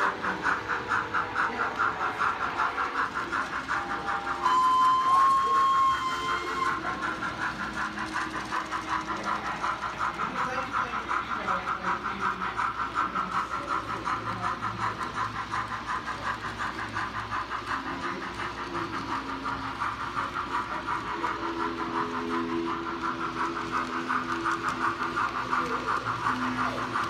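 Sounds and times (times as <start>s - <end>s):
model steam exhaust chuffs: 0.0s - 27.0s.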